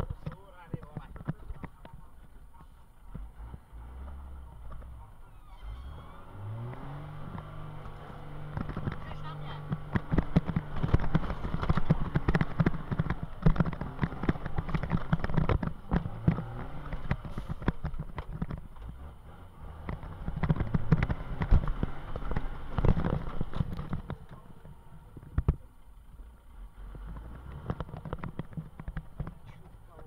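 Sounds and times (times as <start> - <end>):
cab rattling and knocking: 0.0 - 3.3, 6.6 - 19.1, 19.8 - 25.6, 27.2 - 30.0
diesel engine running: 1.1 - 30.0.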